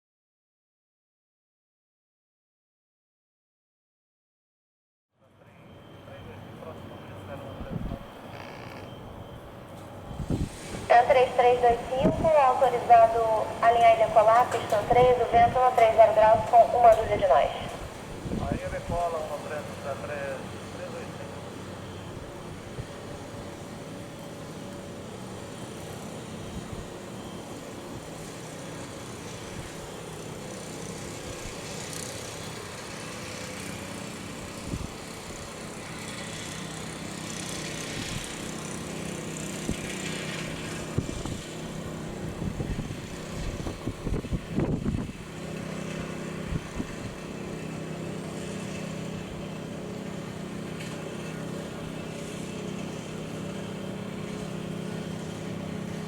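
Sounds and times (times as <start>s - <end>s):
distant jet engine rumble: 5.4s - 56.0s.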